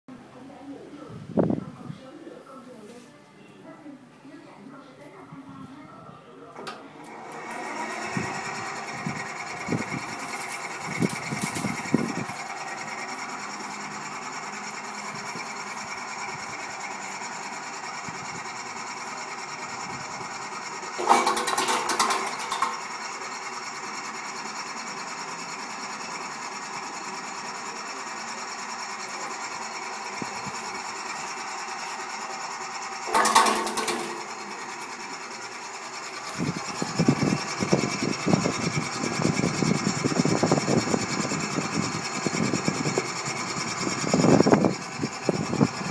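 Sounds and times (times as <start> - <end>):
slicing machine motor hum: 6.6 - 45.9.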